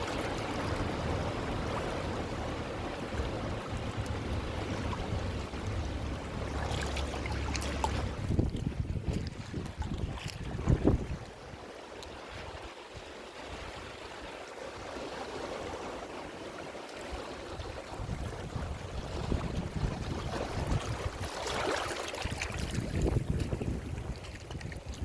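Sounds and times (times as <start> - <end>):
ocean surf washing ashore: 0.0 - 25.0.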